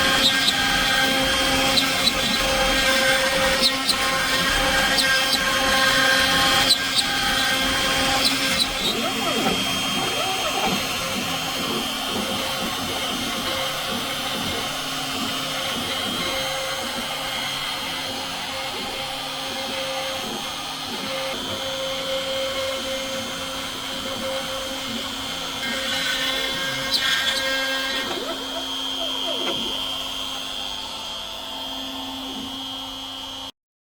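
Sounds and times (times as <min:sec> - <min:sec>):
machine motor whining: 0:00.0 - 0:33.5.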